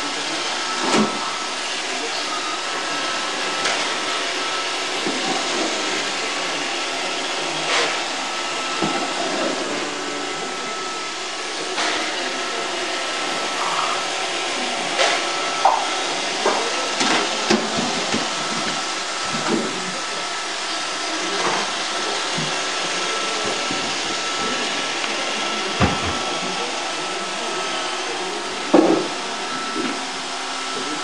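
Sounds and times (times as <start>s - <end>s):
robot vacuum running: 0.0s - 31.0s.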